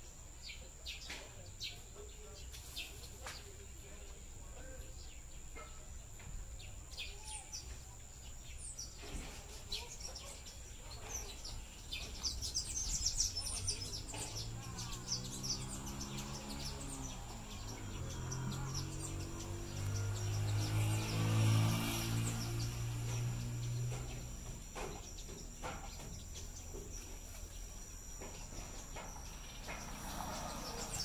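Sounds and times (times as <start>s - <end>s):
birds chirping: 0.0s - 31.0s
high insect drone: 0.0s - 31.0s
low even hum: 0.0s - 31.0s.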